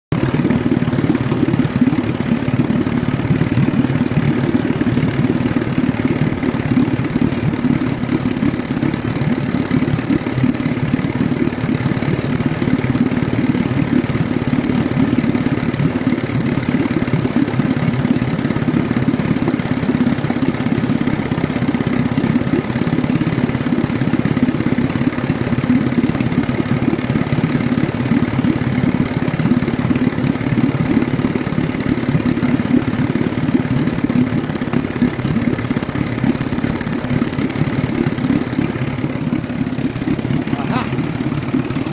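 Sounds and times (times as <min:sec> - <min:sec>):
outboard motor idling: 0:00.1 - 0:41.9.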